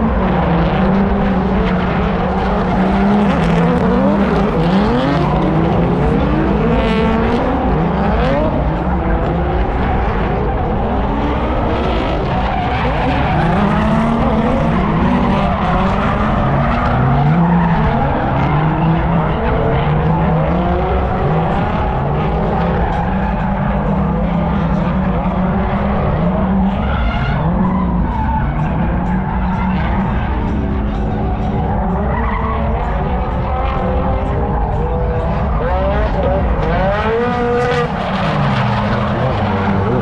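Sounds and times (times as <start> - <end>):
car engines revving hard: 0.0 - 40.0
tyres skidding: 0.0 - 40.0.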